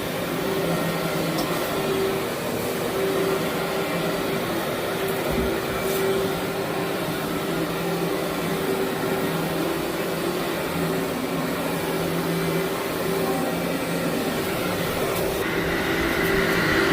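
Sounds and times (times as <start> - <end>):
vacuum cleaner on carpet: 0.0 - 16.9.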